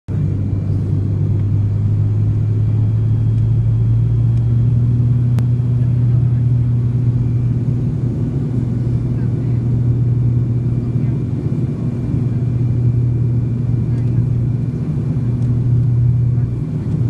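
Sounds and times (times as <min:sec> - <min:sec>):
propeller engine droning: 0:00.1 - 0:17.0.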